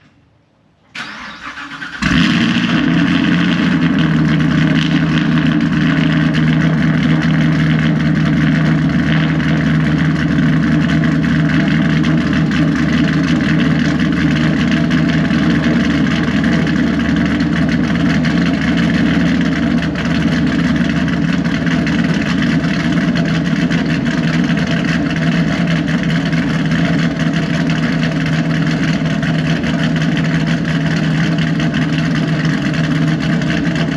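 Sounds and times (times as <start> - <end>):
engine idling loudly: 2.0 - 33.9.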